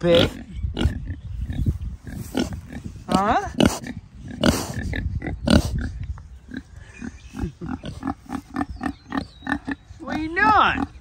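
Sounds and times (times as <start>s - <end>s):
pig grunting: 0.0s - 11.0s
pig snorting: 0.1s - 9.8s.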